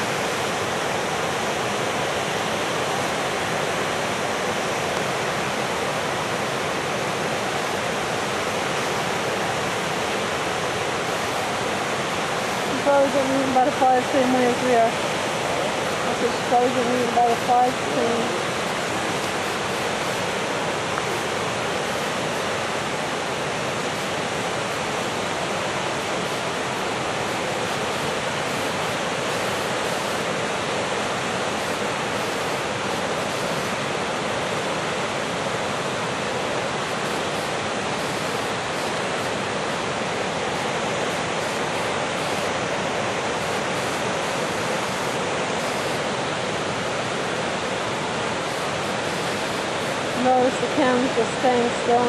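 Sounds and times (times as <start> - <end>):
river rapids rushing: 0.0 - 52.0.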